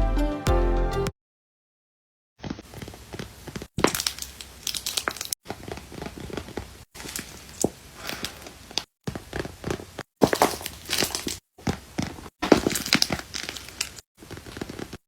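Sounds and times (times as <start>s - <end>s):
paper and tape crinkling: 2.4s - 15.0s.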